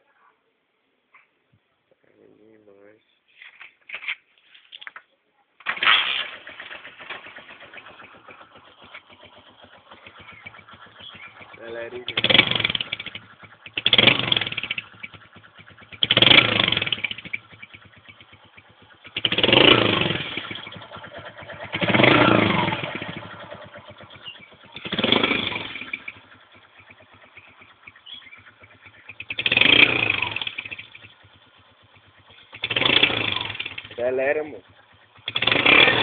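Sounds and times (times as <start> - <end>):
exhaust popping: 5.6 - 36.0
motorcycle engine revving: 5.6 - 36.0.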